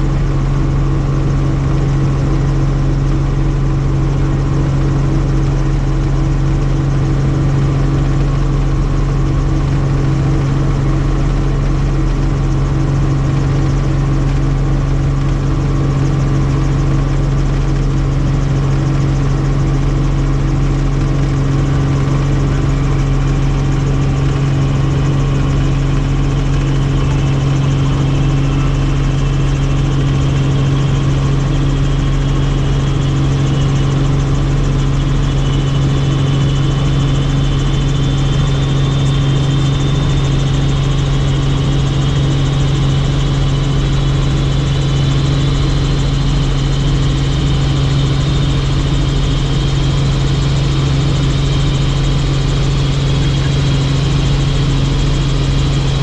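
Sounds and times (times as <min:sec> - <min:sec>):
helicopter in flight: 0:00.0 - 0:56.0.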